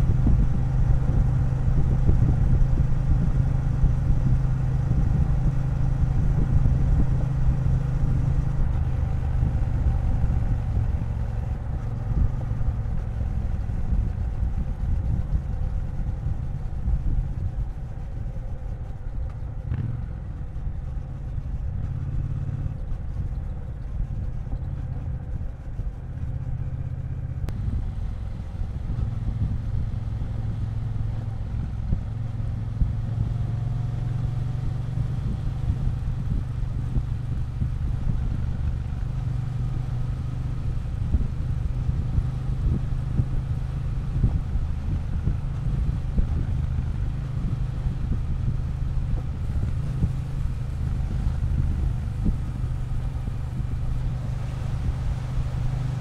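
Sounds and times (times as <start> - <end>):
motorcycle engine running: 0.0 - 56.0
wind noise: 0.0 - 56.0.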